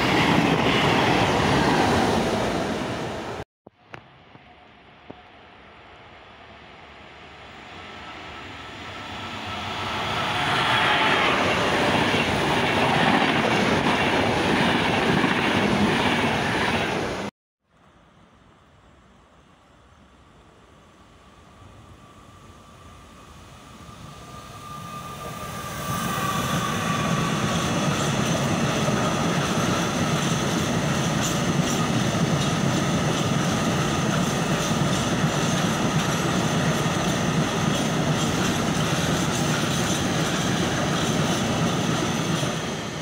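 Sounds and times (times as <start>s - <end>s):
freight train passing at speed: 0.0s - 3.4s, 4.0s - 17.3s, 18.2s - 43.0s.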